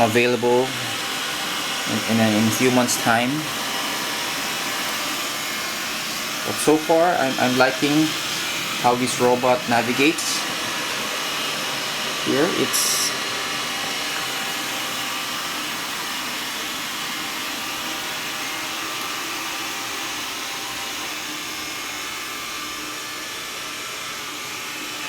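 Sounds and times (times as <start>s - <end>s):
robot vacuum whirring: 0.0s - 25.0s.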